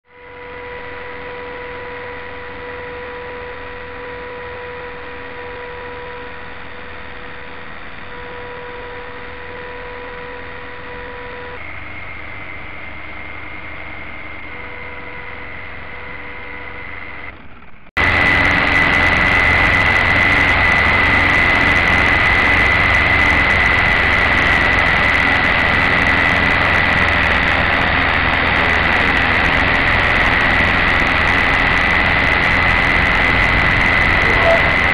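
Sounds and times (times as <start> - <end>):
toy helicopter motor whine: 0.1 - 34.9.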